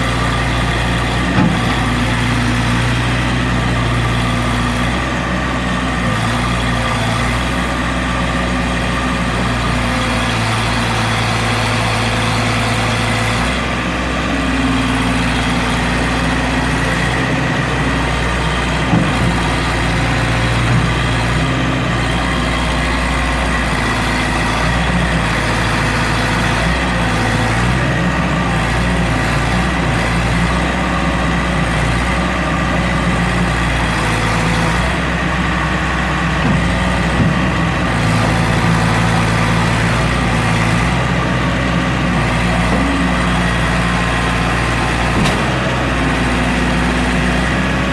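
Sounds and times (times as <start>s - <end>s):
heavy engine running: 0.0s - 47.9s.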